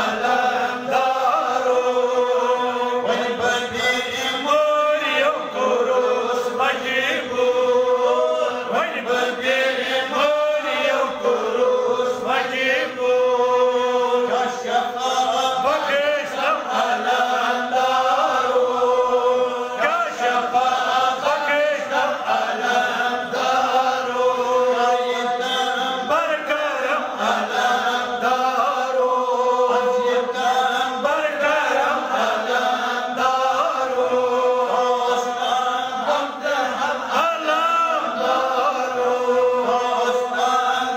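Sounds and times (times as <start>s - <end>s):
voices singing melodic chant: 0.0s - 40.9s.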